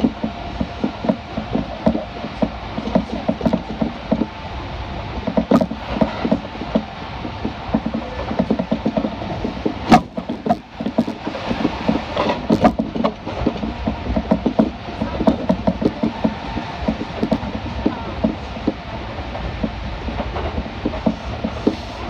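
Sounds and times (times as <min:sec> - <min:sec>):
train car body rattling: 0:00.0 - 0:22.0
train wheels clattering over rail joints: 0:00.0 - 0:22.0.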